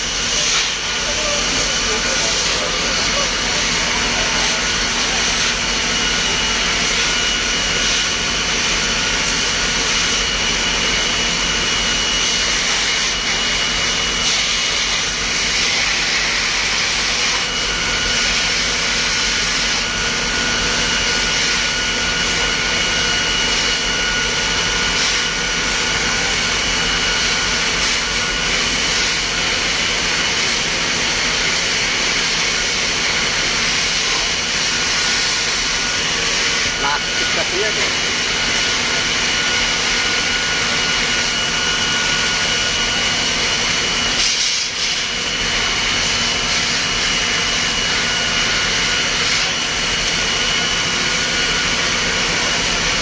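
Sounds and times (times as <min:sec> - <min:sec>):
fire hose water rushing: 0:00.0 - 0:53.0.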